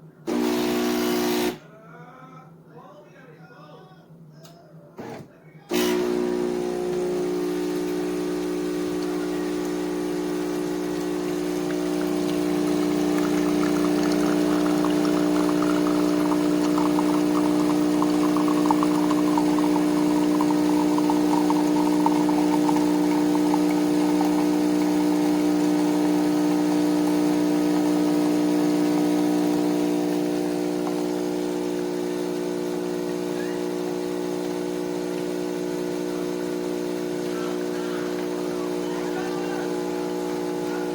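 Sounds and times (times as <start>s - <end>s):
coffee streaming into cup: 5.8s - 40.9s
espresso machine pump humming: 5.8s - 40.9s.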